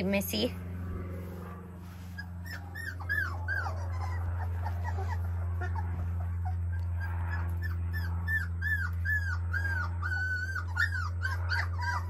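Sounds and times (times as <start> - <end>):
steady low hum: 0.0 - 12.0
puppies whimpering: 2.1 - 12.0.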